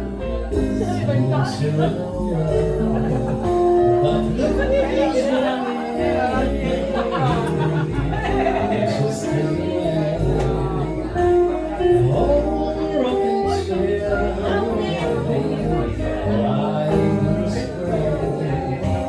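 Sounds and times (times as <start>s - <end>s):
live band playing slow blues: 0.0s - 19.0s
steady bass line: 0.0s - 19.0s.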